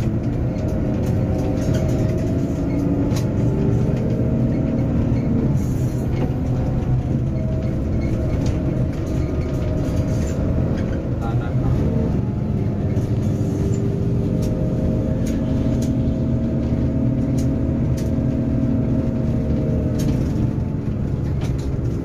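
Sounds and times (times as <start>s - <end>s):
bus engine and road drone: 0.0s - 22.0s.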